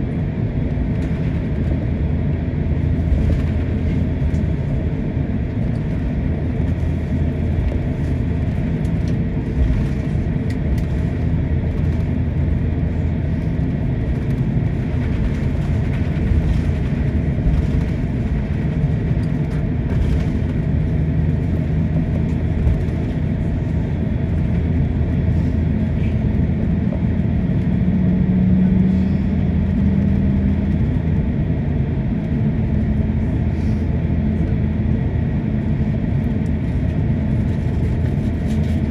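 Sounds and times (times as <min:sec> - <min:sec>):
airliner cabin rumble: 0:00.0 - 0:38.9
low hum: 0:00.0 - 0:38.9.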